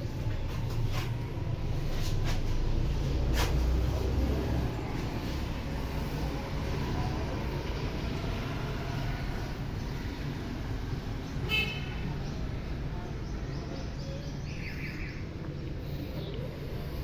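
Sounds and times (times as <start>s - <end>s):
low urban rumble: 0.0s - 17.0s.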